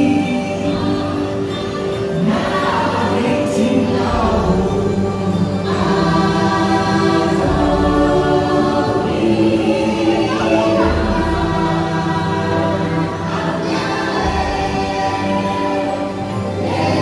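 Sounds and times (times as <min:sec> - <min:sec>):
choir singing held notes: 0:00.0 - 0:17.0.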